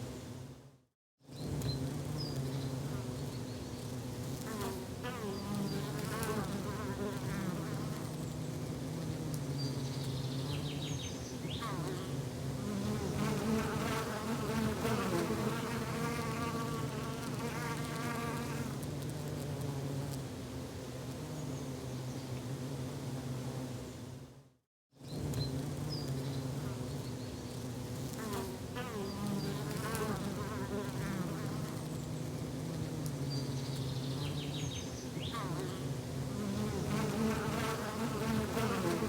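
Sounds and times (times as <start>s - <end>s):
flying insect buzzing: 1.3s - 23.7s, 25.1s - 39.0s.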